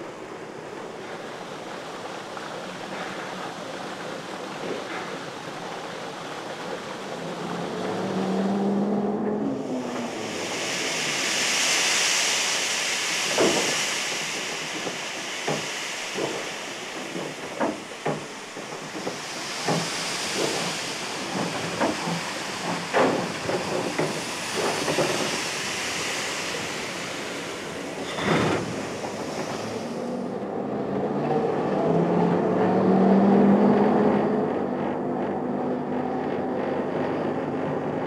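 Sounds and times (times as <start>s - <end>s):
steam locomotive hissing: 0.0s - 30.5s.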